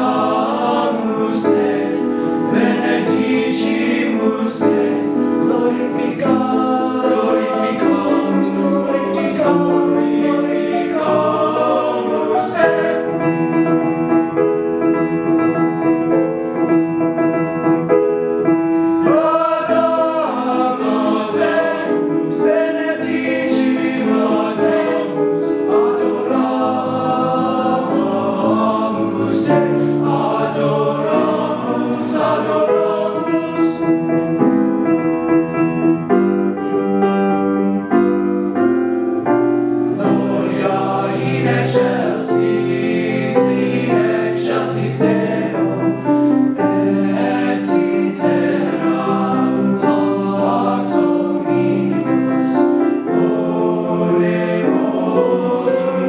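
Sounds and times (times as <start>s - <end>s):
boys' choir singing in harmony: 0.0s - 38.2s, 39.4s - 56.0s.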